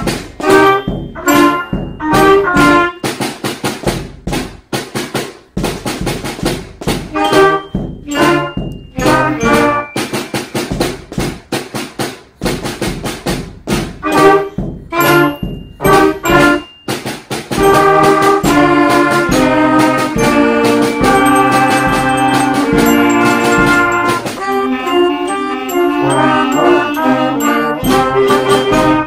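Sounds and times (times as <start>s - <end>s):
school band playing chords: 0.0s - 29.0s
snare drum strokes: 0.0s - 29.0s.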